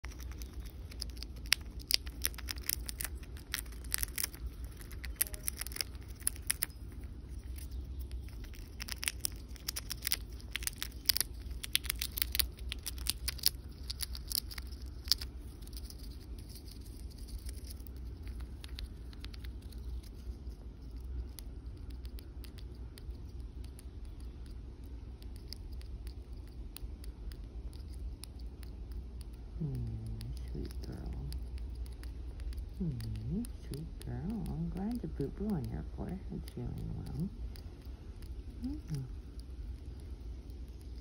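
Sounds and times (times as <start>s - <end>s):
chipmunk crunching peanut shell: 0.0s - 41.0s.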